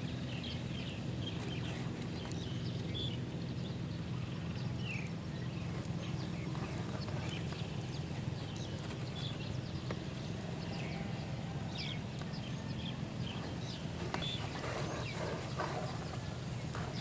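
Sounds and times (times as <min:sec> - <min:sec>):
small birds chirping: 0:00.3 - 0:17.0.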